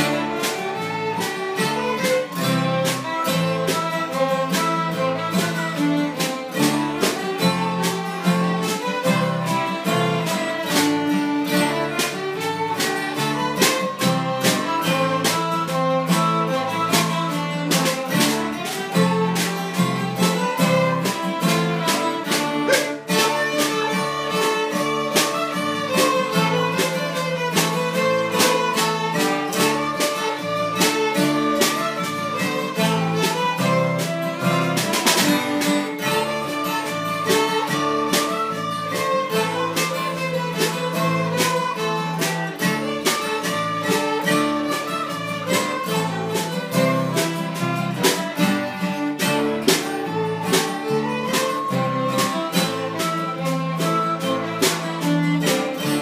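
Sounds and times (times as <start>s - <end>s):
guitar accompaniment: 0.0s - 56.0s
lively fiddle tune: 0.0s - 56.0s.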